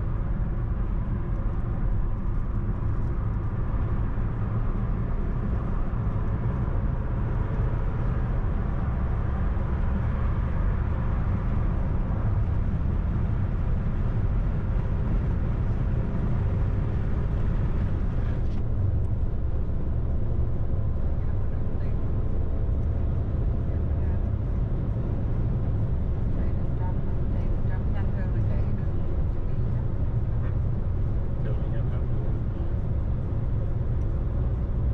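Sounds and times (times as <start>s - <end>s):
car road noise rumble: 0.0s - 34.9s.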